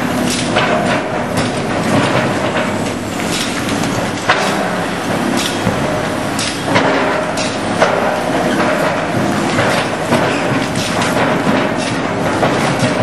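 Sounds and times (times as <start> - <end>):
demolition machinery running: 0.0 - 13.0.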